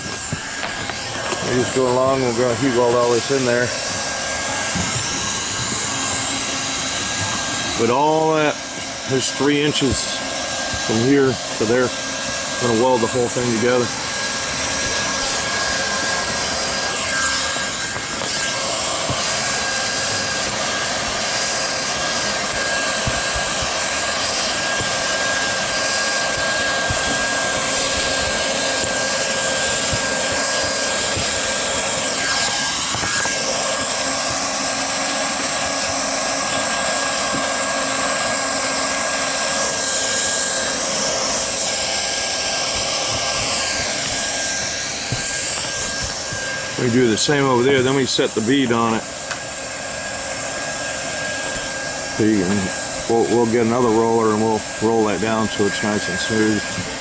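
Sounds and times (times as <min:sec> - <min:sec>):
hot-air welder blower hissing: 0:00.0 - 0:57.0.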